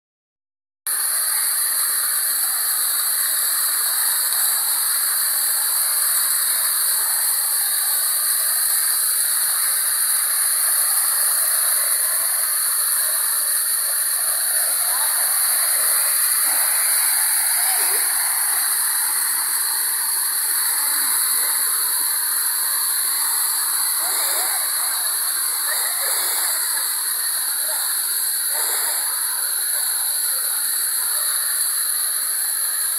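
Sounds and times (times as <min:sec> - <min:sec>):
waterfall rushing: 0:02.2 - 0:32.9.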